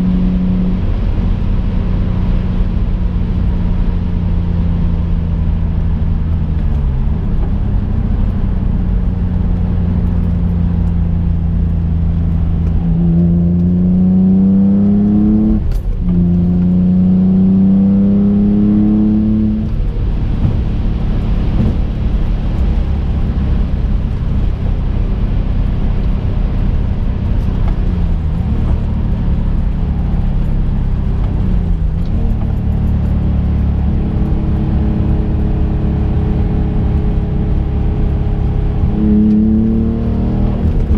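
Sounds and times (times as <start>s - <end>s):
car engine heard from cabin: 0.0s - 40.9s.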